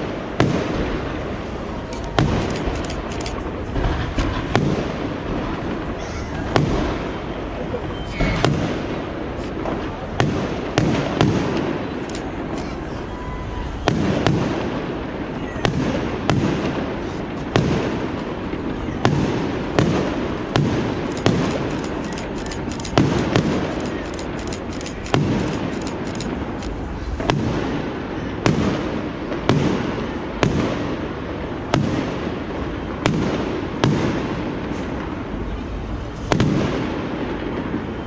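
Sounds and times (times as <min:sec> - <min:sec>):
fireworks banging: 0:00.0 - 0:38.0
murmur of large crowd: 0:00.0 - 0:38.0
rapid fireworks crackling: 0:00.0 - 0:38.0.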